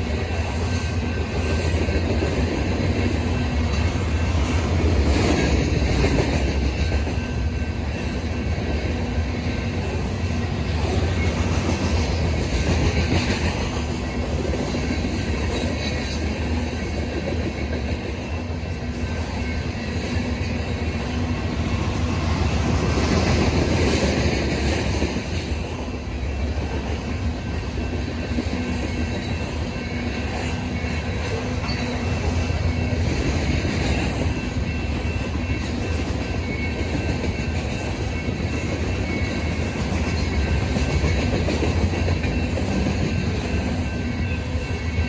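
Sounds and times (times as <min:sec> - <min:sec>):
train wheels clacking over rail joints: 0:00.0 - 0:45.0.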